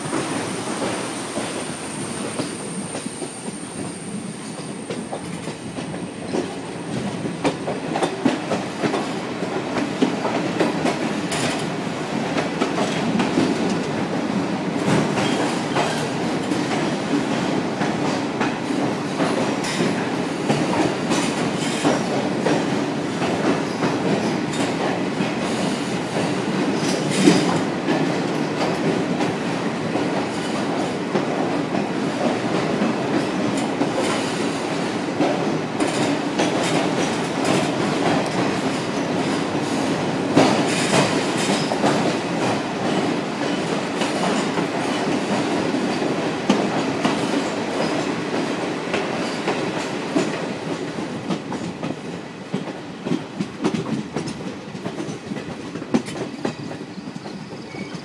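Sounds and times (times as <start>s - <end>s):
sharp train clanks: 0.0s - 58.0s
train wheels rumbling on track: 0.0s - 58.0s.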